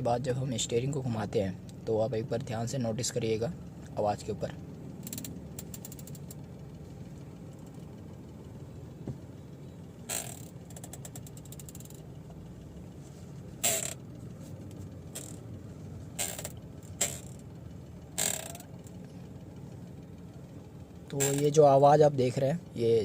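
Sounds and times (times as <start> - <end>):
engine idling hum: 0.0 - 23.0
steering column creaking and clicking: 3.1 - 22.5.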